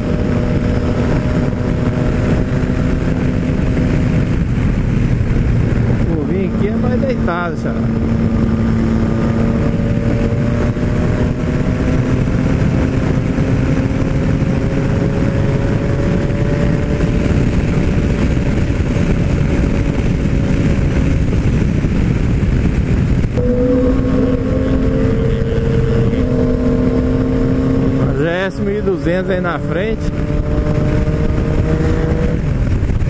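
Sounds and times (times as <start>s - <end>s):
wind rush over microphone: 0.0s - 33.0s.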